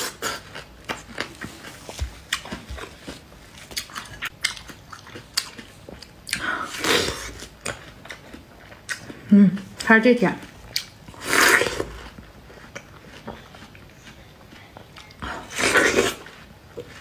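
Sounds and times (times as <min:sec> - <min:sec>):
chewing crisp fruit: 0:00.0 - 0:17.0.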